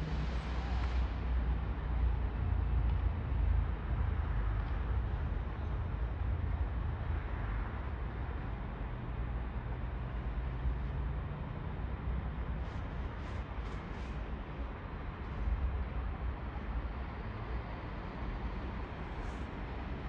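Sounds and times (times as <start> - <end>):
low train rumble: 0.0 - 20.0.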